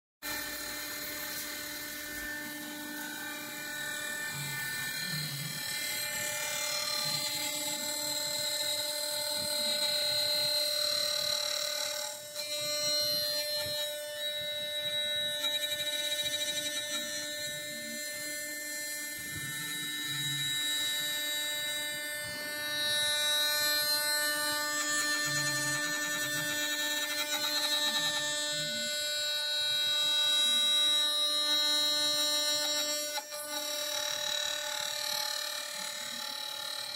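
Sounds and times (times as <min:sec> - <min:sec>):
bit carving wood: 0:00.2 - 0:36.9
router spindle whining: 0:00.2 - 0:36.9.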